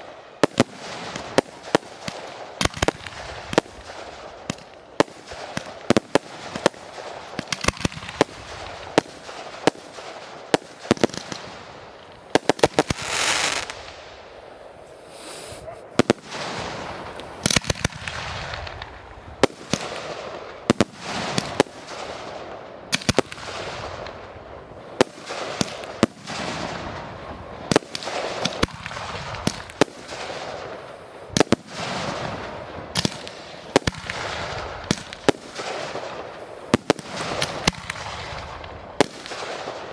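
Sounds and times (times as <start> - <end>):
hissing crackle of fireworks: 0.0 - 39.9.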